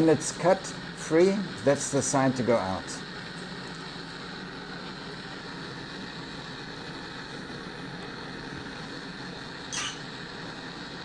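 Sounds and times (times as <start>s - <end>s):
gas burner flame rushing: 0.0s - 11.0s.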